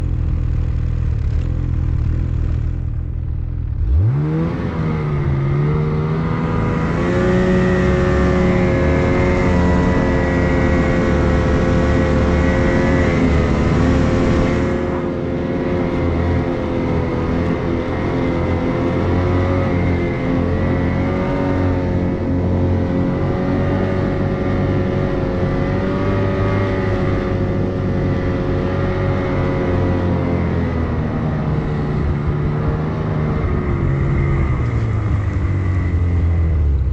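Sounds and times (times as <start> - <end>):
snowmobile engine revving: 0.0 - 36.8.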